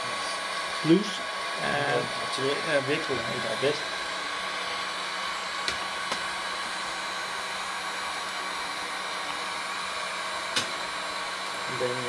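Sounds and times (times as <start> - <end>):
heat gun blowing: 0.0 - 12.0.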